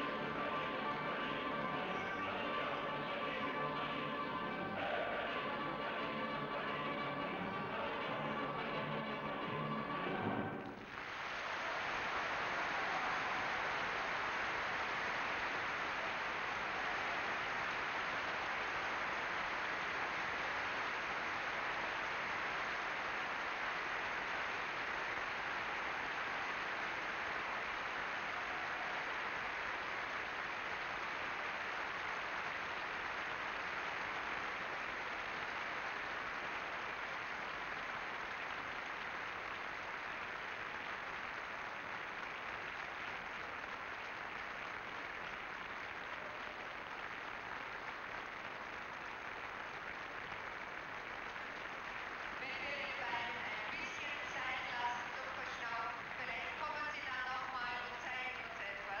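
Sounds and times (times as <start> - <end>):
crowd applauding: 0.0 - 59.0.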